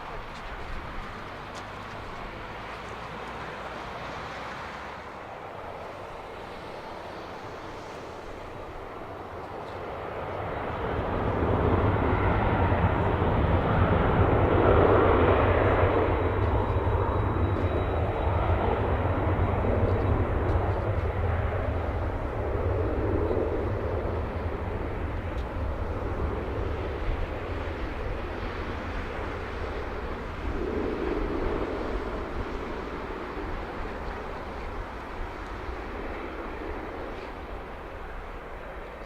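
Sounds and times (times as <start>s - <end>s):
jet airliner roar passing: 0.0s - 39.0s.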